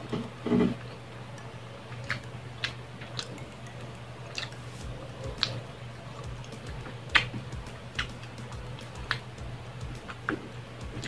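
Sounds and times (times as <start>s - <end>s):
steady low hum: 0.0s - 11.0s
chewing: 0.1s - 11.0s
wet clicks and smacks: 1.4s - 5.6s, 6.2s - 11.0s.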